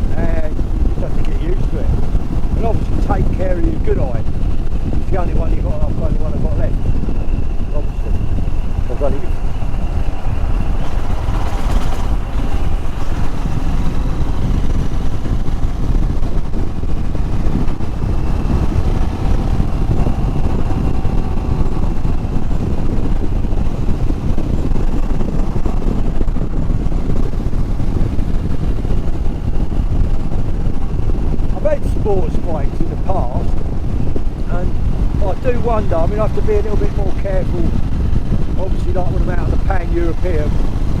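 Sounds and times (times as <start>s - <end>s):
motorcycle engine running: 0.0s - 41.0s
wind noise on microphone: 0.0s - 41.0s.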